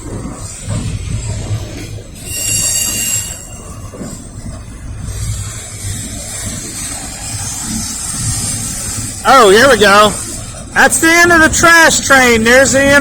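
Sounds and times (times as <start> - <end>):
freight train rumbling past: 0.0 - 13.0
metal wheel squeal: 0.7 - 12.0.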